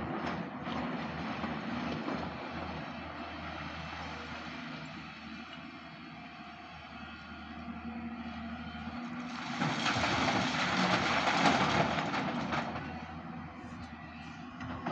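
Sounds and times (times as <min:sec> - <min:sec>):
heavy machinery engine hum: 0:00.0 - 0:14.9.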